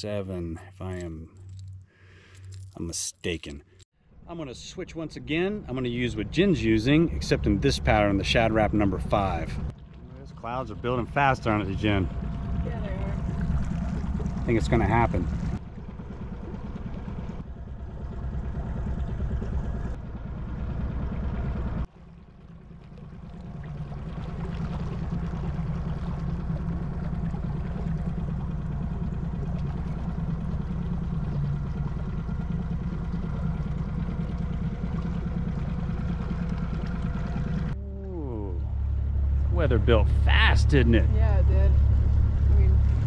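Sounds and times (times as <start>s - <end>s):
boat engine humming: 0.0s - 43.0s.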